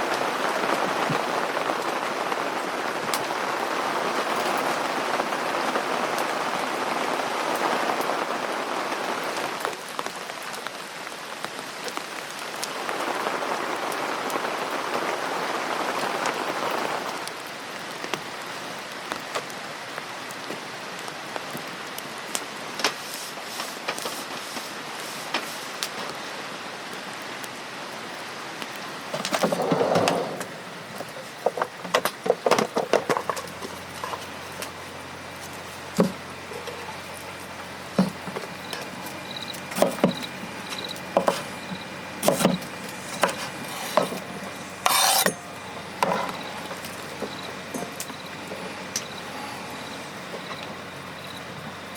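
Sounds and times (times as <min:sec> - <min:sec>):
rain falling on a tent: 0:00.0 - 0:51.9
rustle: 0:00.0 - 0:51.9.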